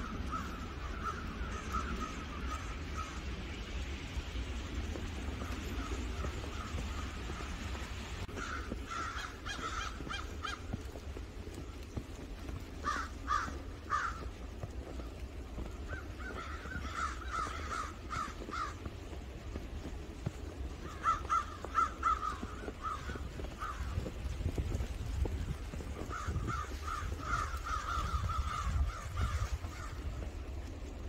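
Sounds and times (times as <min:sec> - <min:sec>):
crows cawing: 0:00.0 - 0:03.7, 0:05.4 - 0:30.9.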